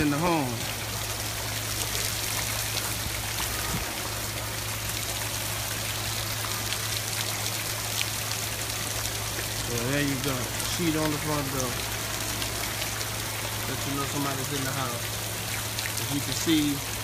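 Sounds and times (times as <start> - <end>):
rain falling on water: 0.0 - 17.0
water drips: 0.0 - 17.0.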